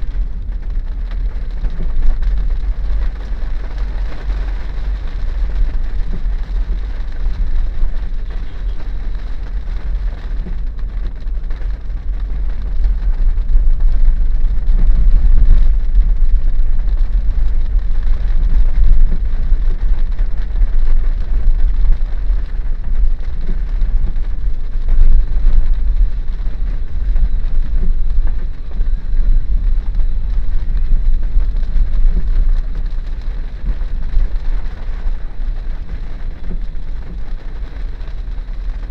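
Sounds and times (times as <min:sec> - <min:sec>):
rain hissing on car: 0:00.0 - 0:38.9
road and tyre rumble: 0:00.0 - 0:38.9.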